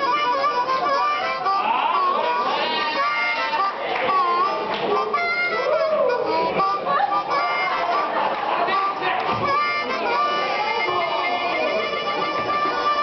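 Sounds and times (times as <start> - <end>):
blues harmonica: 0.0 - 13.0.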